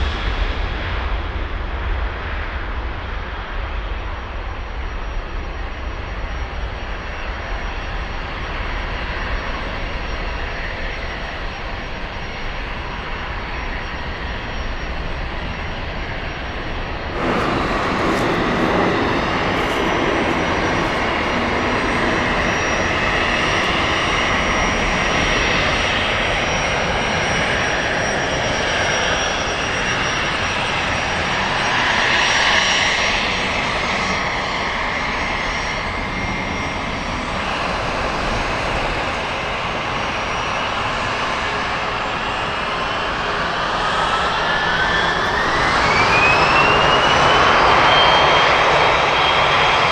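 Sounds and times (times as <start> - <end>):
jet engine roaring: 0.0 - 49.9.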